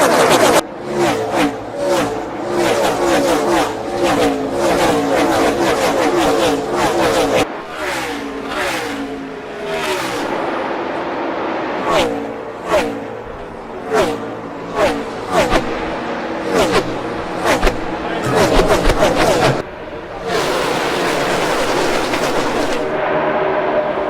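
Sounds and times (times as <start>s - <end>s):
race car engines revving and passing: 0.0s - 24.0s.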